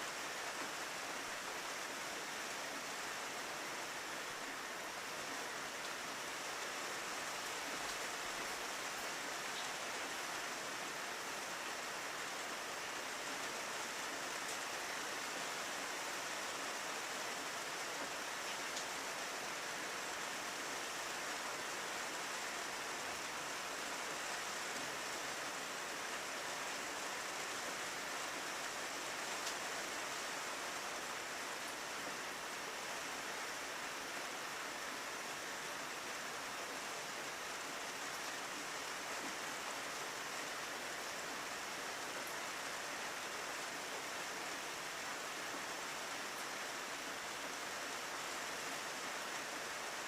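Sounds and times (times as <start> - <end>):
rain on a windowpane: 0.0 - 50.0.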